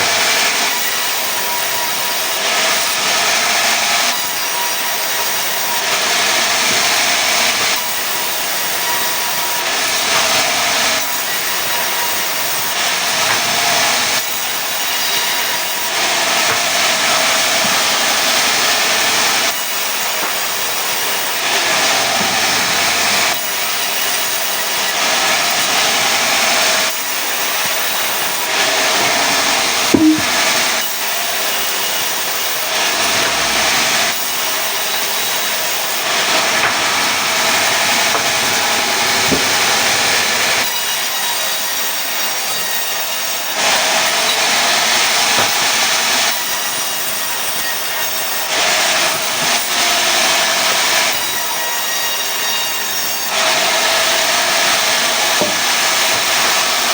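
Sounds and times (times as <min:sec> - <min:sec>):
saw cutting wood: 0:00.0 - 0:30.5, 0:31.6 - 0:56.9.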